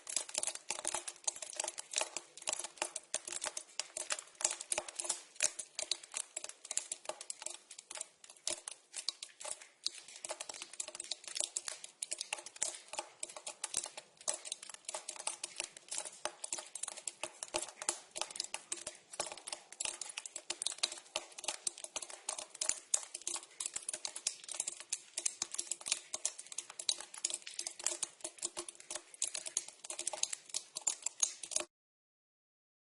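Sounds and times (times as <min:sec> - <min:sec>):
water dripping into a pipe: 0:00.0 - 0:31.7.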